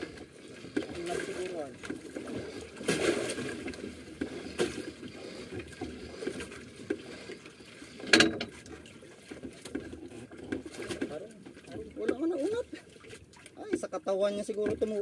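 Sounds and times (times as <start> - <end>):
water lapping against wooden hull: 0.0 - 15.0.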